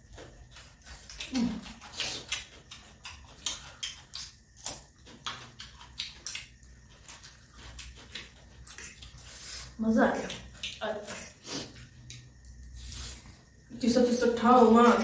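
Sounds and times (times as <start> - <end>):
people chewing and lip smacking: 0.0 - 13.7.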